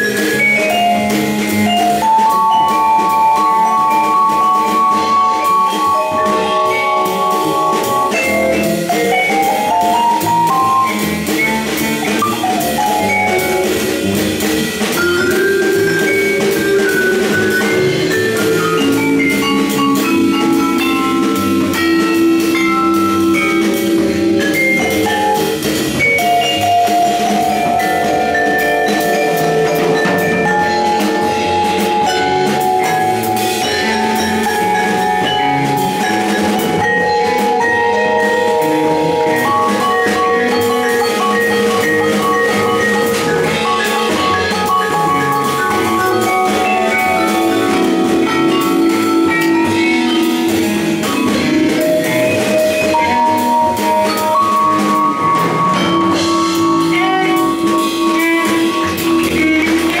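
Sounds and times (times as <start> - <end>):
double bass: 0.0 - 60.0
drum kit: 0.0 - 60.0
vibraphone: 0.0 - 60.0.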